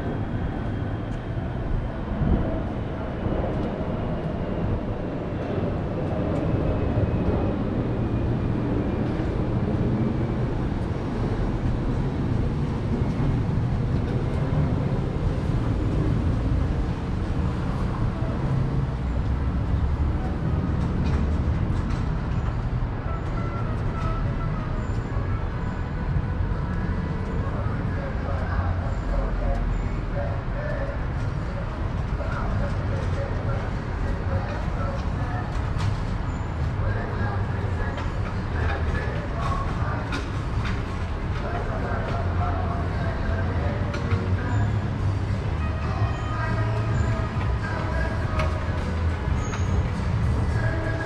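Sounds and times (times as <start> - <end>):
low urban rumble: 0.0 - 51.0.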